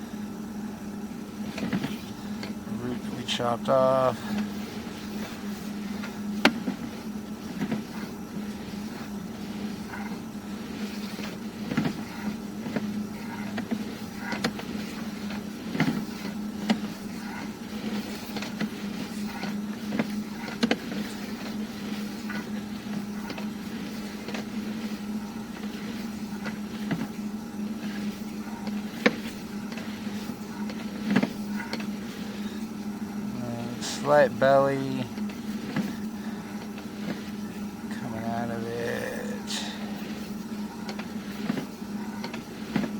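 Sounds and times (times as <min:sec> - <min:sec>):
low mechanical hum: 0:00.0 - 0:42.9.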